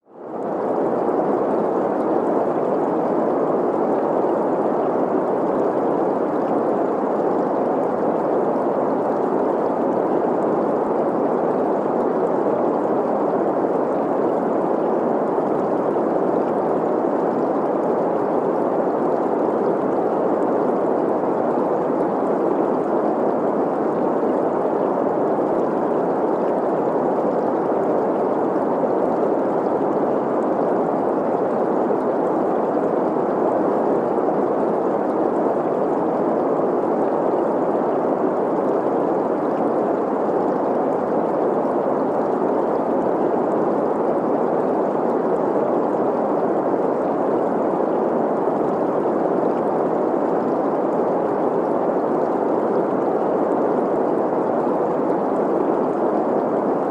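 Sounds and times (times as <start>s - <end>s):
flowing stream: 0.2s - 56.9s.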